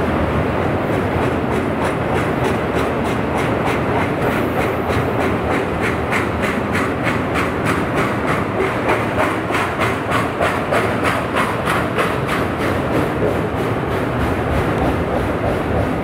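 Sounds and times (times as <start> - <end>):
train wheels clicking on rail joints: 0.0 - 16.0.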